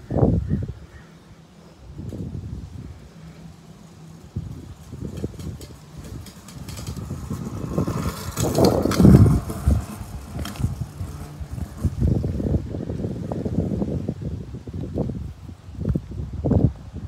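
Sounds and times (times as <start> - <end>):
scooter wheels rattling on asphalt: 0.2 - 17.0.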